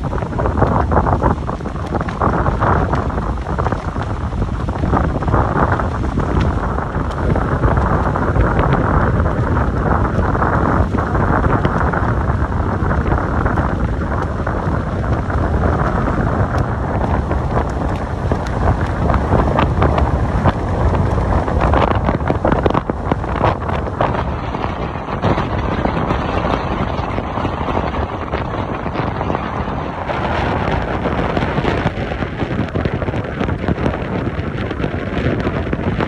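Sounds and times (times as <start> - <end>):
gusty wind buffeting microphone: 0.0 - 36.0.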